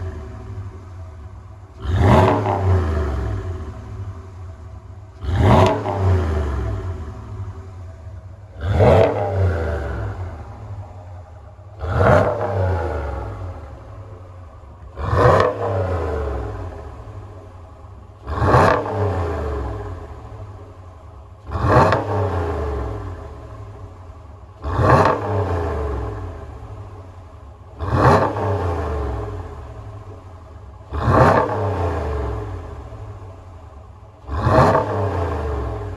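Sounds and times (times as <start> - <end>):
pickup engine revving: 0.0 - 35.9.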